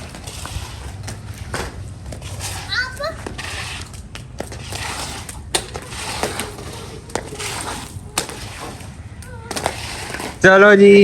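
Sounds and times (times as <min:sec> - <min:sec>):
squeegees scraping water on floor: 0:00.0 - 0:11.0.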